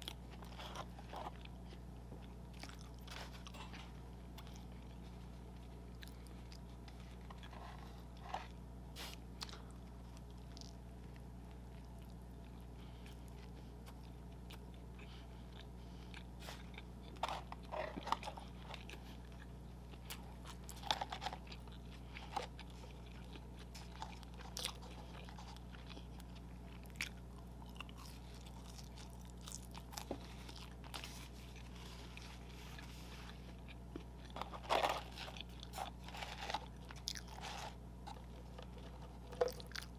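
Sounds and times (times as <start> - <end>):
crunchy bites and chewing: 0.0 - 39.9.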